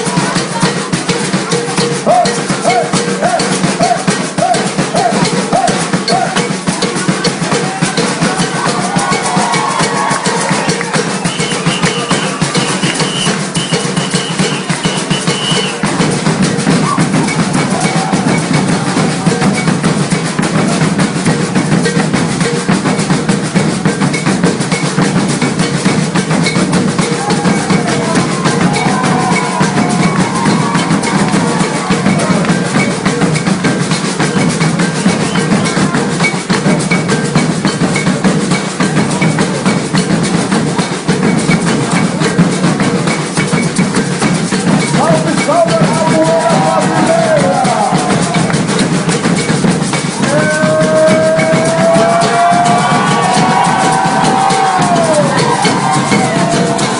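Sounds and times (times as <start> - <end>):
bass and snare drumming: 0.0 - 56.9.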